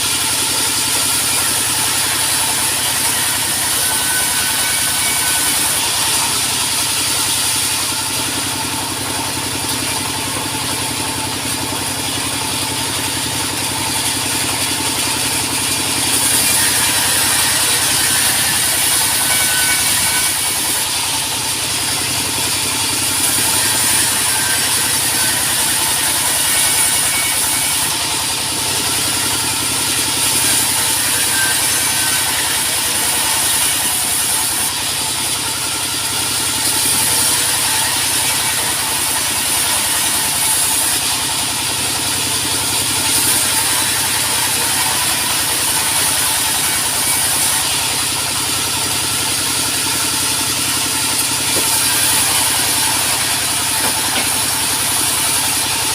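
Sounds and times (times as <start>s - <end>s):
sawmill machinery drone: 0.0s - 55.9s.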